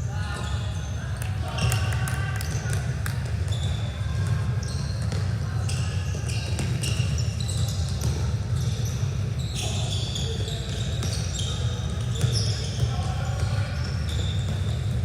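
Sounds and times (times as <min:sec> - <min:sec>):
low hum of hall: 0:00.0 - 0:15.0
sneakers squeaking on court: 0:00.2 - 0:15.0.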